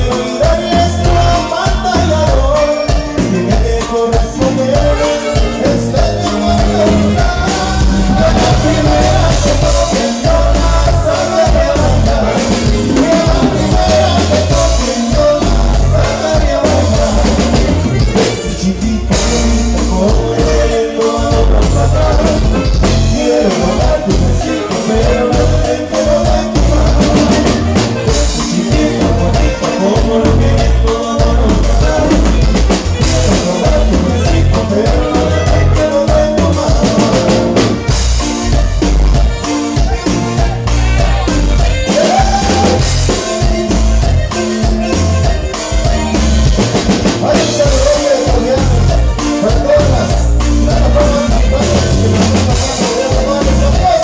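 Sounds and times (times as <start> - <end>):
drum kit dance beat: 0.0 - 54.0
person singing: 0.0 - 54.0.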